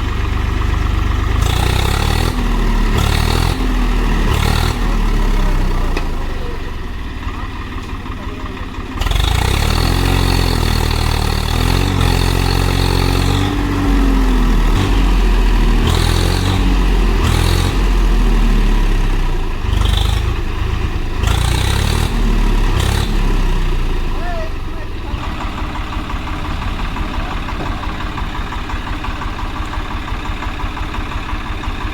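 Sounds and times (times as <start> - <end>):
tractor engines revving: 0.0 - 31.9.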